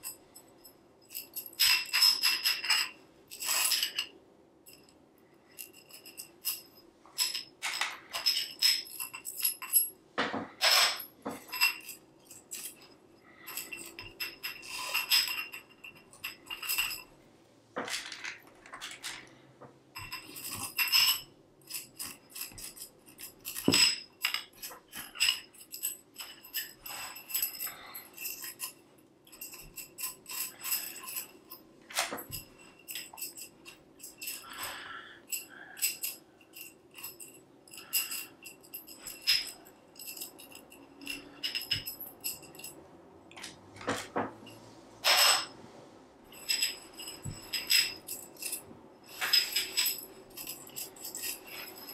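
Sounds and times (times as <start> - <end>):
joints clicking and rattling: 0.0 - 17.2, 17.8 - 45.6, 46.2 - 51.9
struts clinking and knocking: 1.0 - 17.1, 17.8 - 45.6, 46.3 - 51.9.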